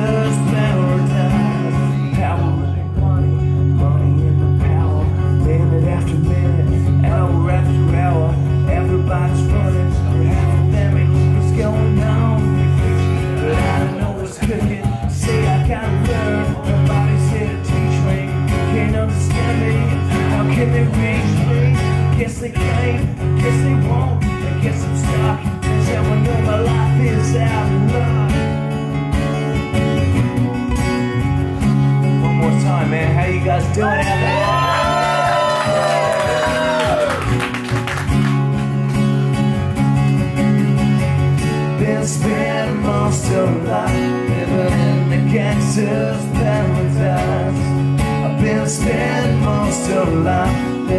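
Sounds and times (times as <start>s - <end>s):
acoustic guitars playing: 0.0s - 50.9s.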